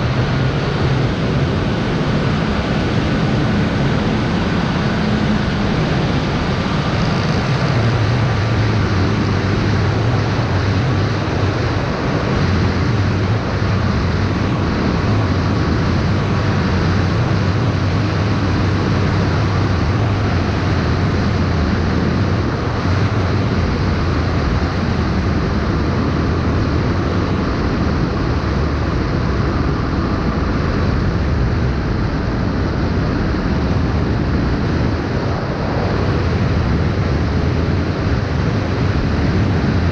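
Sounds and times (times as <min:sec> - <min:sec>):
wind and propeller rushing: 0:00.0 - 0:39.9.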